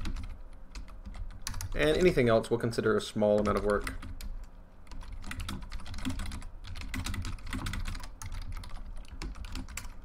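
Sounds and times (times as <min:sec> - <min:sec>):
keyboard typing: 0:00.0 - 0:02.2, 0:03.3 - 0:10.0.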